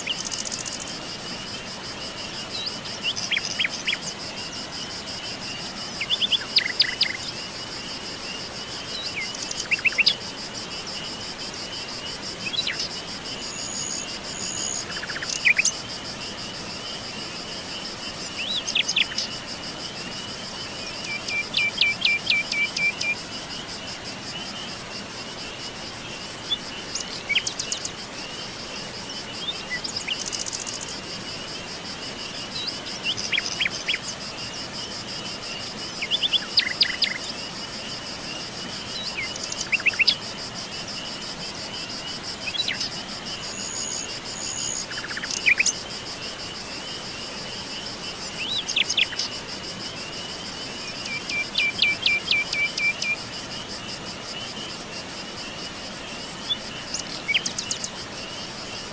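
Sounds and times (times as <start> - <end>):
high-pitched insect trill: 0.0 - 58.9.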